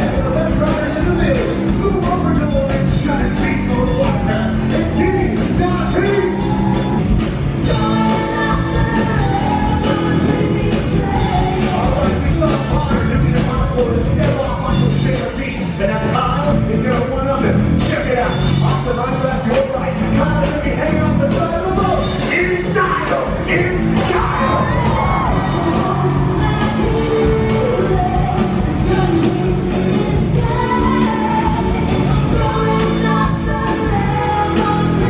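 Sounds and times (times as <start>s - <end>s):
person singing: 0.0s - 7.0s, 7.6s - 35.0s
loud rock music: 0.0s - 35.0s
steady drum beat: 0.0s - 35.0s.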